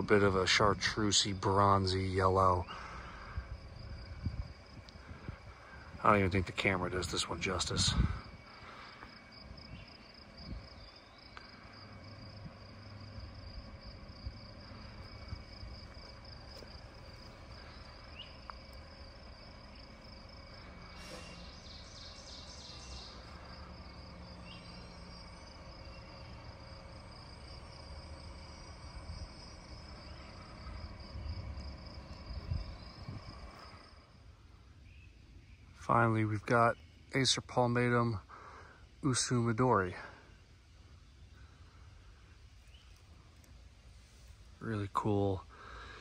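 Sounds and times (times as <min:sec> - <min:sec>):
insect trilling: 0:00.0 - 0:46.0.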